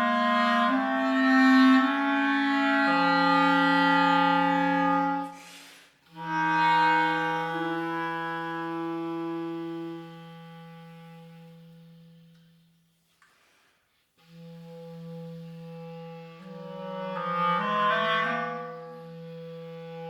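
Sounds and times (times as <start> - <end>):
clarinet playing low notes: 0.0 - 12.9, 14.2 - 20.0.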